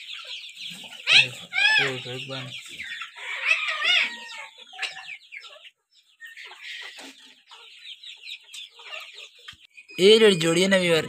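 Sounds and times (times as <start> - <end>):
chicks peeping and clucking: 0.0 - 11.0.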